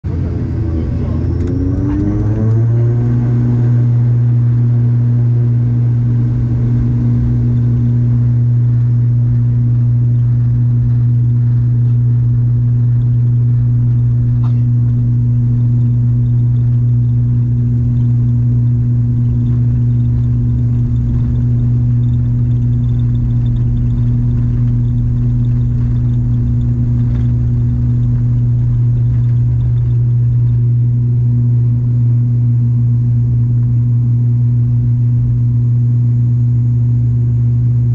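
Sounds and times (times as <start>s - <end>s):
propeller engines droning: 0.0s - 37.9s.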